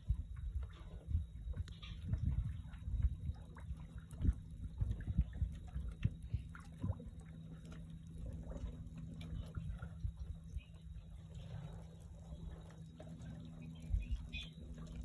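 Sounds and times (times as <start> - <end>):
low rumble: 0.0 - 15.0
steady low hum: 0.0 - 15.0
water lapping and splashing: 0.0 - 15.0.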